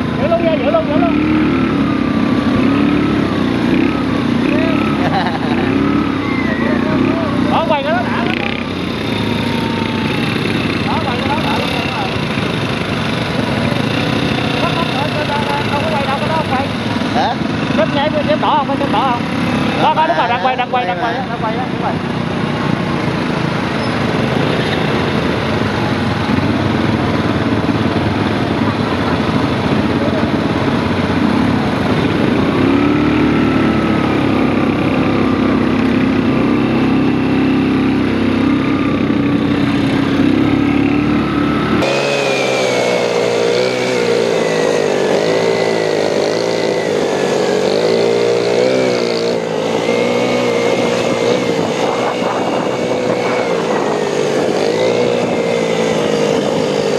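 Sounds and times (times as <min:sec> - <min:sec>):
atv engines revving: 0:00.0 - 0:56.9.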